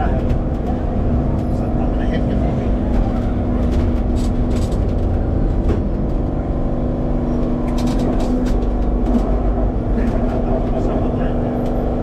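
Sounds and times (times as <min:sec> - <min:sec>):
tram motor hum: 0:00.0 - 0:12.0
tram rumbling on rails: 0:00.0 - 0:12.0.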